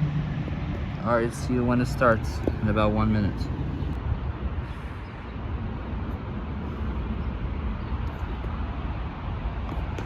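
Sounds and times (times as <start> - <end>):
road noise: 0.0 - 10.0
traffic engine rumble: 0.0 - 10.0.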